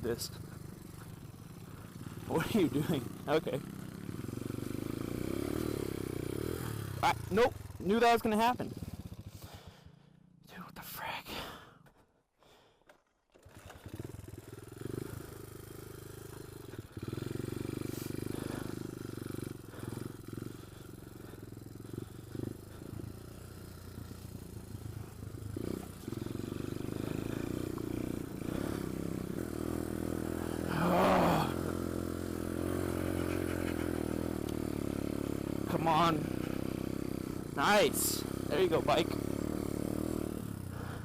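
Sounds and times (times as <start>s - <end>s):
pit bike engine running: 0.0s - 10.4s, 13.4s - 41.0s.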